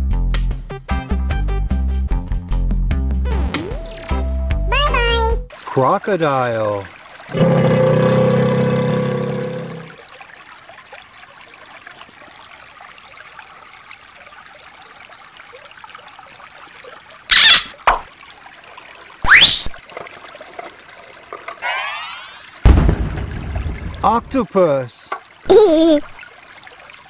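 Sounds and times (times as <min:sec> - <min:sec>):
stream trickling over rocks: 0:05.0 - 0:27.0.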